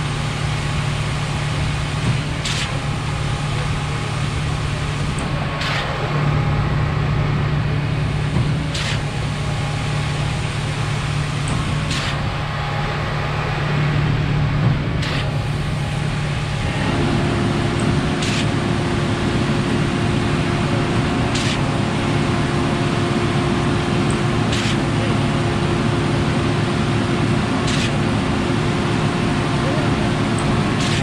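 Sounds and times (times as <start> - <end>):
diesel engine drone: 0.0 - 31.0.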